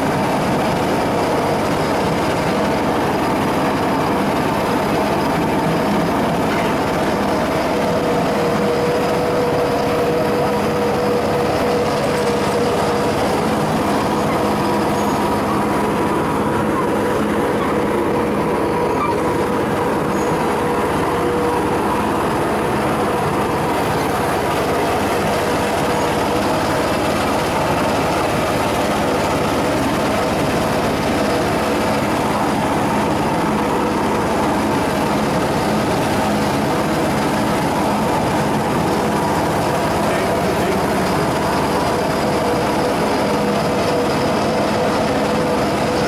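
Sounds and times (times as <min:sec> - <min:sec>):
miniature train rolling rumble: 0:00.0 - 0:46.0.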